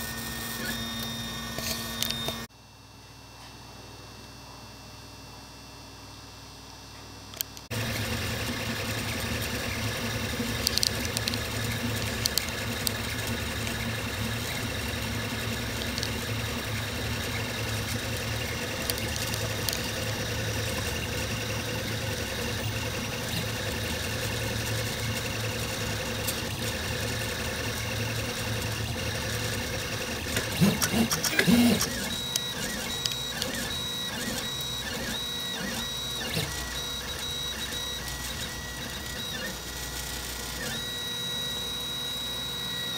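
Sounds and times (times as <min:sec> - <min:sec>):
stepper motors whining in bursts: 0:00.0 - 0:02.5, 0:07.7 - 0:42.9
printer fans and motors humming: 0:00.0 - 0:42.9.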